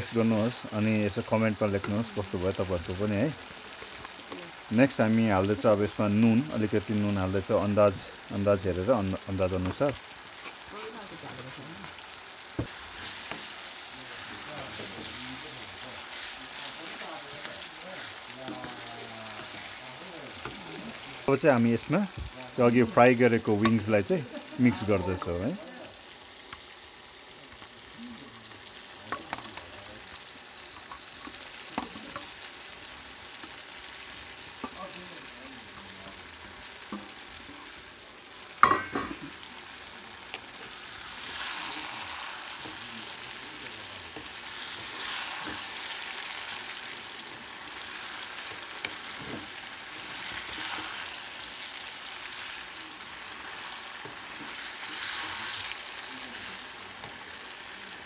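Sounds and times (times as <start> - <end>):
food sizzling in oil: 0.0 - 58.0.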